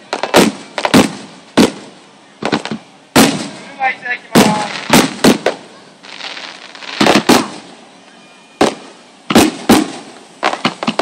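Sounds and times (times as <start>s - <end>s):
firework shells bursting: 0.1s - 3.7s, 4.3s - 7.8s, 8.6s - 11.0s.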